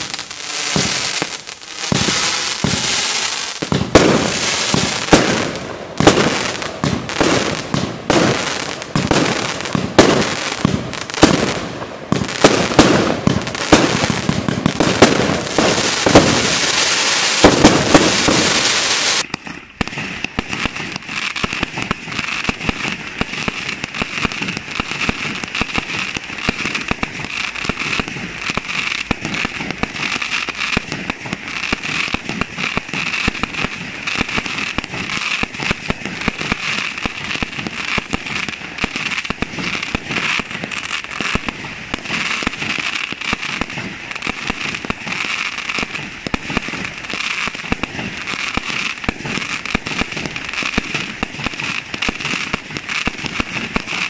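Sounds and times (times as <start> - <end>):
fireworks barrage with crackle: 0.0 - 54.0
rapid firework popping: 0.0 - 54.0.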